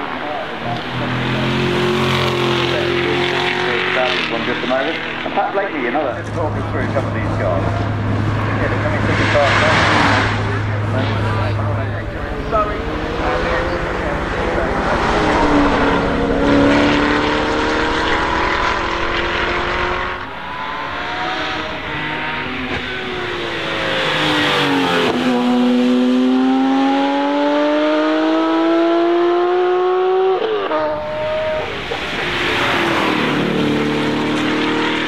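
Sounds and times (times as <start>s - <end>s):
car engine accelerating: 0.0s - 35.0s
sports car engine revving: 0.2s - 35.0s.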